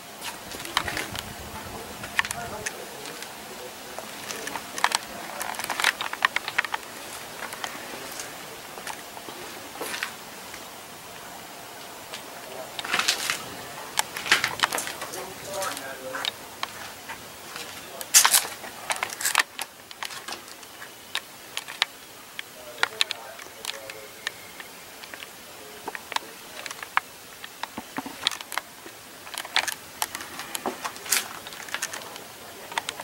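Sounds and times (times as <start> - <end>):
faint voices: 0.0 - 33.0.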